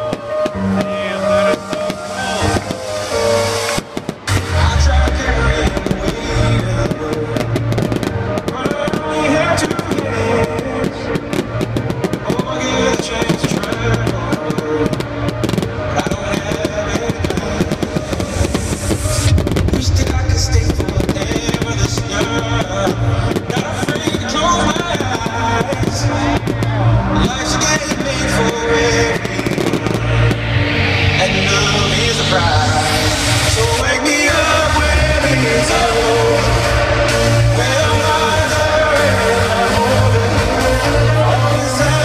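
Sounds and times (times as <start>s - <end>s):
electronic dance music: 0.0s - 42.0s
fireworks bangs and crackles: 0.0s - 42.0s.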